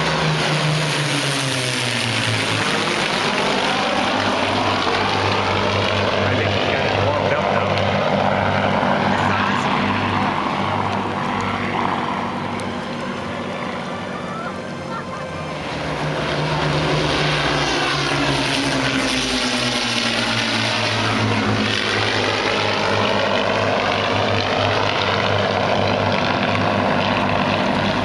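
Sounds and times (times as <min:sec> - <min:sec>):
propeller plane engines drone: 0:00.0 - 0:28.0.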